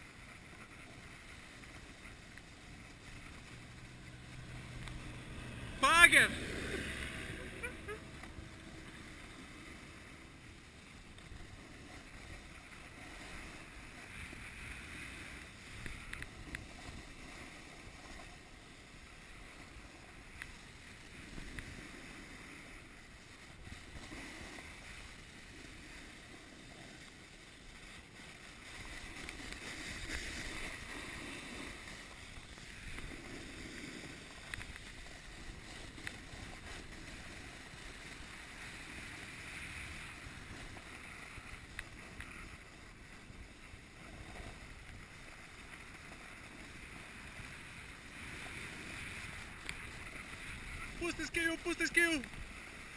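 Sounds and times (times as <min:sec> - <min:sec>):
skis scraping over snow: 0:00.0 - 0:52.9.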